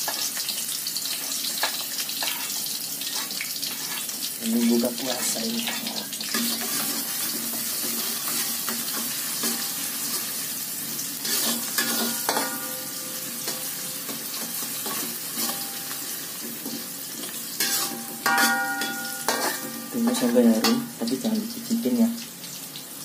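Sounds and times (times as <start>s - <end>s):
shallots sizzling in hot oil: 0.0s - 23.0s
metal spatula scraping wok: 1.5s - 21.0s.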